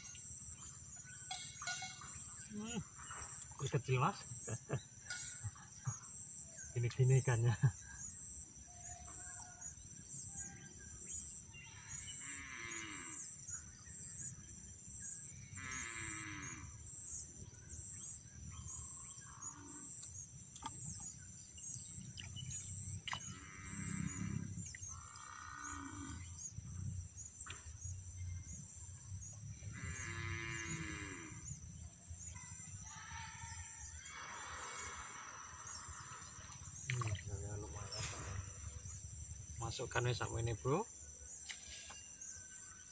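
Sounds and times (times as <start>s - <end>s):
insect chorus trilling: 0.0s - 42.9s.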